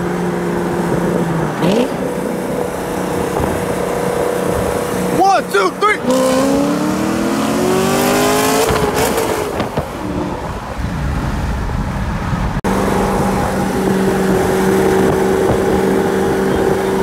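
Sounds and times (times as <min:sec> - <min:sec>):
engine at full throttle: 0:00.0 - 0:17.0
engine drone at cruising speed: 0:00.0 - 0:17.0.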